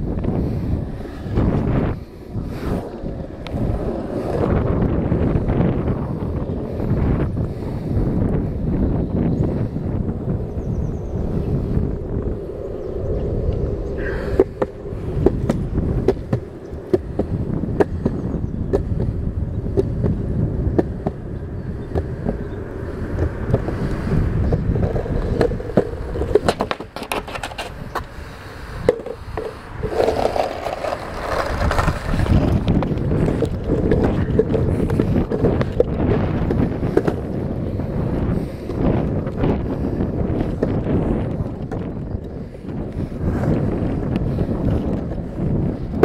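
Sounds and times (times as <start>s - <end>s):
skateboard wheels clacking on joints: 0.0s - 46.0s
skateboard wheels rolling on concrete: 0.0s - 46.0s.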